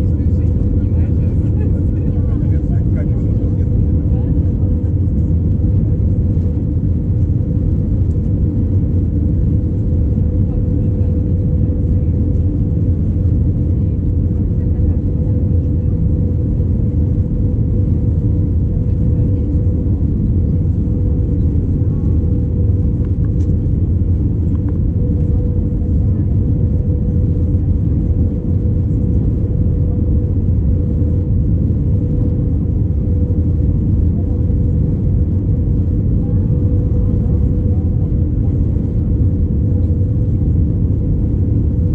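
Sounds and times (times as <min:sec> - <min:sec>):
jet engine rumble: 0:00.0 - 0:41.9
steady hum: 0:00.0 - 0:41.9.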